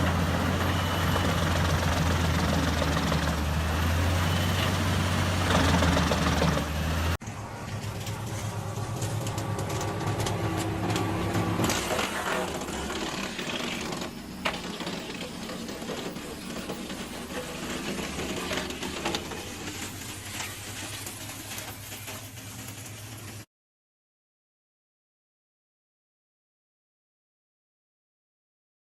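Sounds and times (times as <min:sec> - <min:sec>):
machinery clattering: 0:00.0 - 0:23.4.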